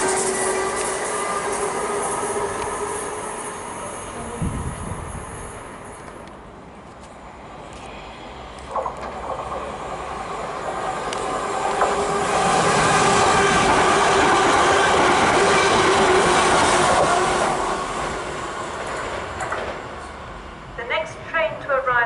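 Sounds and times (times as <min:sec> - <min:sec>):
wheels rushing on rail: 0:00.0 - 0:21.3
electric train passing: 0:00.0 - 0:22.0.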